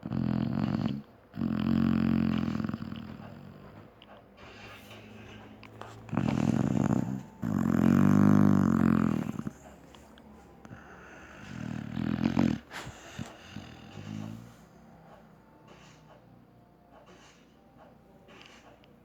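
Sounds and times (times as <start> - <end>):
dog snoring: 0.0 - 16.0
dog breathing: 0.0 - 16.2.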